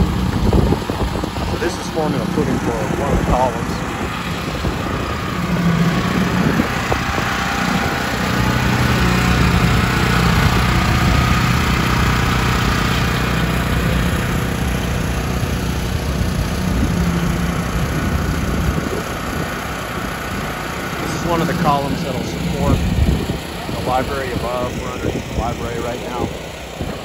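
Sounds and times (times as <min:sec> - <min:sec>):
diesel truck engine: 0:00.0 - 0:27.0
small gasoline engine running: 0:00.0 - 0:27.0.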